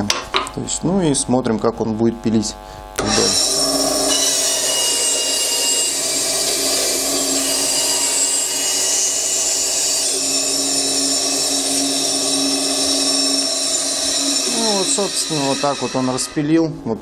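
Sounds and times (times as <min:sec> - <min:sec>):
band saw motor hum: 0:02.0 - 0:17.0
saw blade cutting wood: 0:03.0 - 0:16.7.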